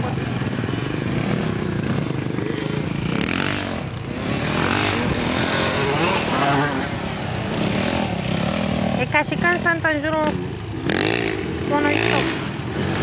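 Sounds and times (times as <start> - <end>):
off-road engines revving: 0.0 - 13.0.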